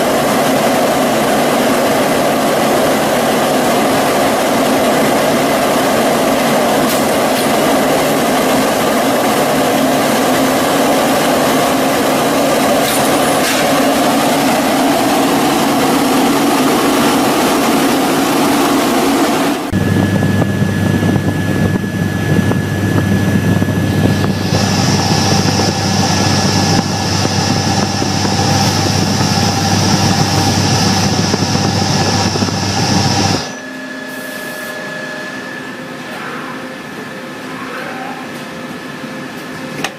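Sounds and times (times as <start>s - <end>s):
high whine: 0.0s - 39.8s
industrial machinery noise: 0.0s - 39.9s
machine hum with pitched tones: 0.0s - 39.9s.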